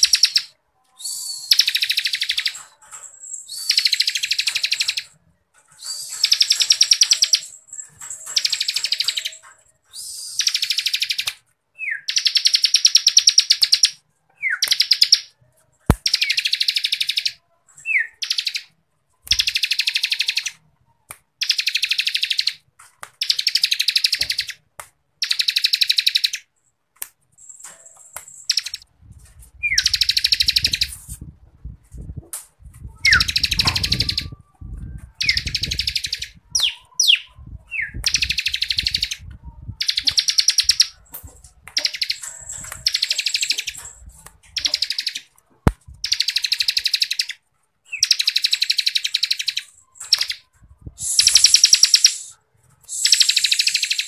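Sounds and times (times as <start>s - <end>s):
bird chirps: 0.0s - 20.6s, 25.2s - 26.5s, 27.4s - 28.8s, 29.6s - 31.0s, 33.0s - 45.3s, 46.0s - 52.3s, 52.9s - 54.0s.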